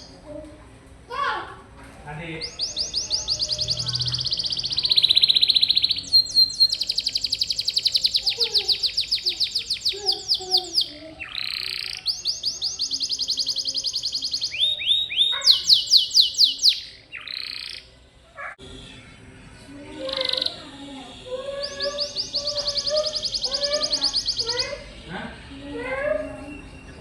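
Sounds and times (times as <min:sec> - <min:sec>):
canary singing trills: 0:00.0 - 0:00.2, 0:02.3 - 0:27.0.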